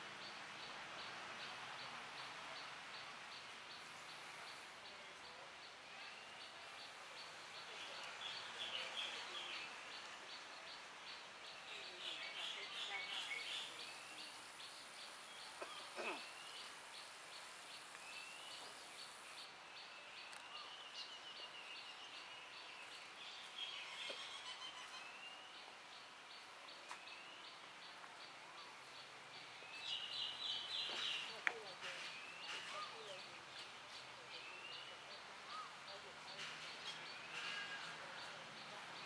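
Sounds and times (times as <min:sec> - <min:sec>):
faint steady hiss: 0:00.0 - 0:39.0
birds chirping: 0:00.2 - 0:39.0.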